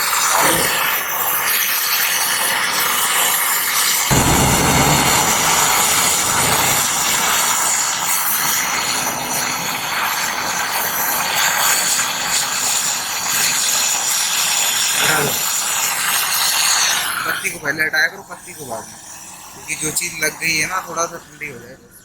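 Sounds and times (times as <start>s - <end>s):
torch flame hissing: 0.0s - 21.7s.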